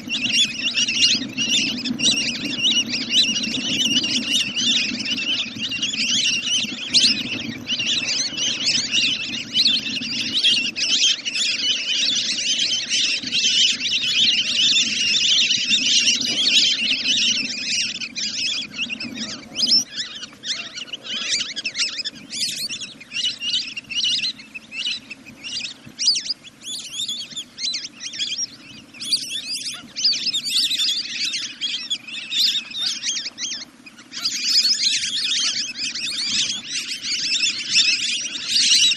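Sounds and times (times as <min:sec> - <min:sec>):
wild duck whistling calls: 0:00.0 - 0:38.9.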